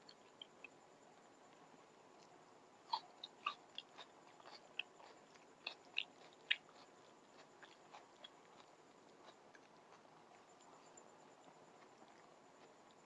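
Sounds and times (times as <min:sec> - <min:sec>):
mouth chewing clicks and smacks: 0:02.2 - 0:13.0.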